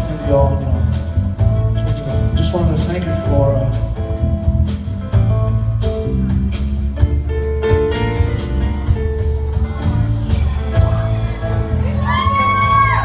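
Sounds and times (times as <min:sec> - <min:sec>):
steady drum beat: 0:00.0 - 0:13.0
walking bass line: 0:00.0 - 0:13.0.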